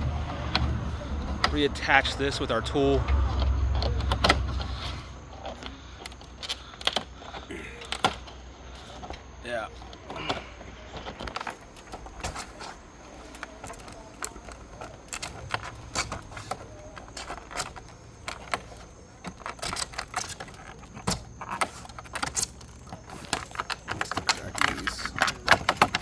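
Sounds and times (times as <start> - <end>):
vinyl siding clicking and snapping: 0.0 - 26.0.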